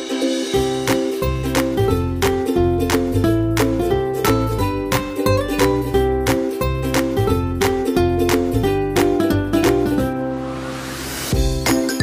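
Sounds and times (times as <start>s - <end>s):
upbeat ukulele and guitar music: 0.0s - 10.4s, 11.4s - 12.0s.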